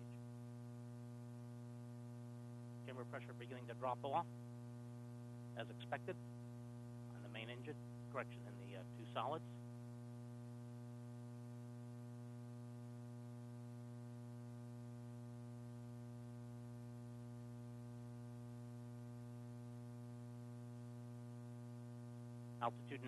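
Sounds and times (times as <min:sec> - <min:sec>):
faint electrical mains hum: 0:00.0 - 0:23.0.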